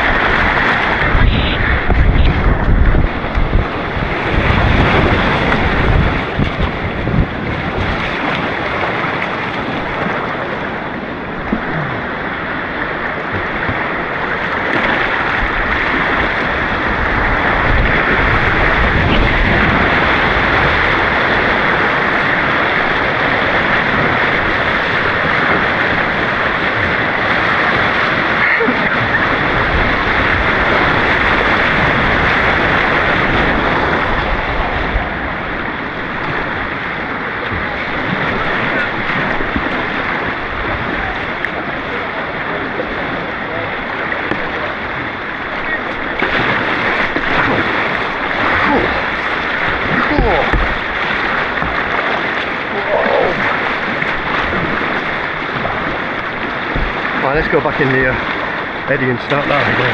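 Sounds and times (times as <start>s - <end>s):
rushing white water: 0.0s - 59.9s
wind buffeting microphone: 0.0s - 59.9s.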